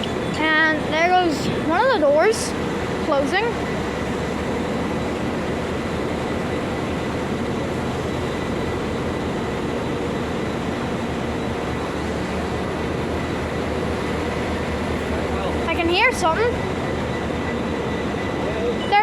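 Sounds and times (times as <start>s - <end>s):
diesel train engine drone: 0.0s - 19.0s.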